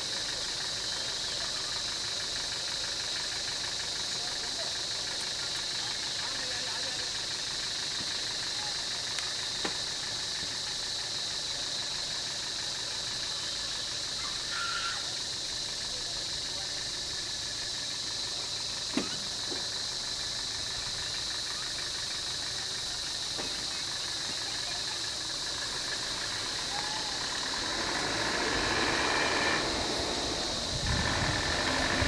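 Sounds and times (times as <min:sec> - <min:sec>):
vehicle engines idling: 0:00.0 - 0:32.0.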